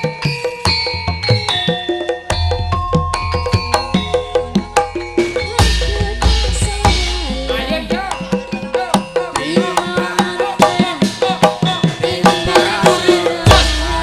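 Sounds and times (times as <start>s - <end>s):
ringing metallophones: 0.0s - 14.0s.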